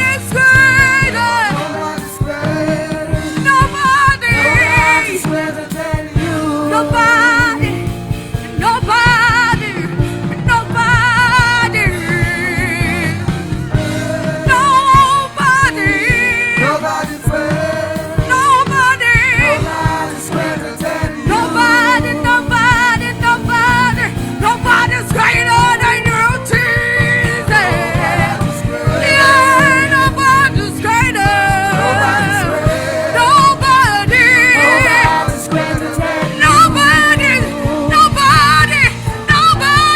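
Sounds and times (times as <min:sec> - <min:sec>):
band accompaniment: 0:00.0 - 0:39.9
person singing with vibrato: 0:00.0 - 0:39.9.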